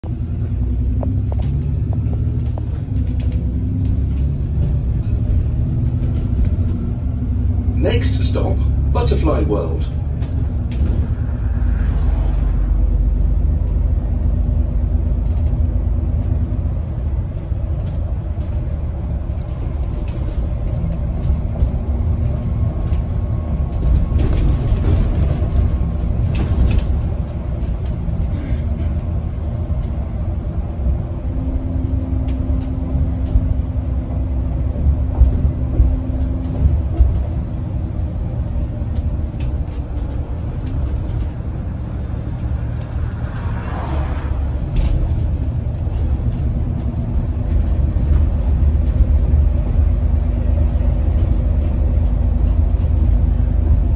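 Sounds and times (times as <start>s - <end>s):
bus engine and road rumble: 0.0s - 53.9s
light rattles and knocks: 0.2s - 7.5s, 13.5s - 53.9s.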